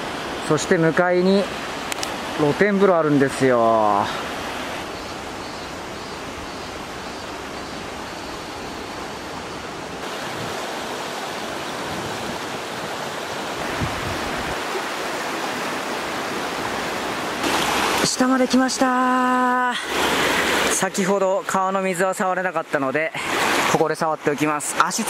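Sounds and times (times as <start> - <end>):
river rushing over stones: 0.0 - 25.0.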